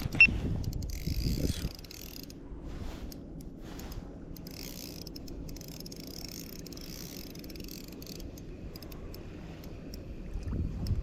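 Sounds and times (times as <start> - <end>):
fishing reel ticking: 0.0 - 2.4, 3.0 - 11.0
wind and water rumble: 0.0 - 11.0.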